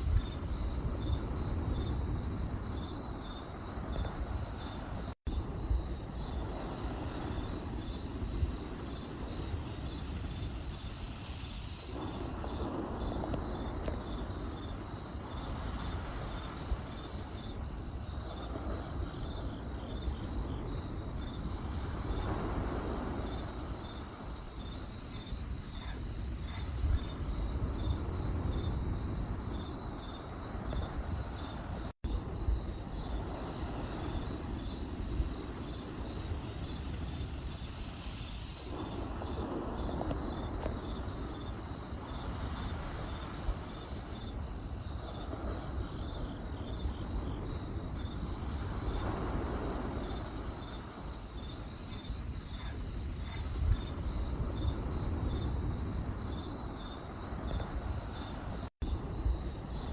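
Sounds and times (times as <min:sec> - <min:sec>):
campfire crackling: 0:00.0 - 0:59.2
crickets chirping: 0:00.0 - 0:59.9.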